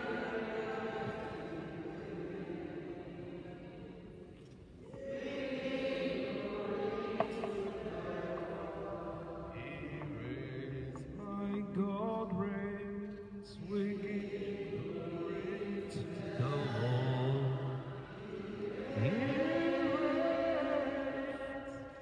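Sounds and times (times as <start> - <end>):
slow devotional chant: 0.0 - 22.0.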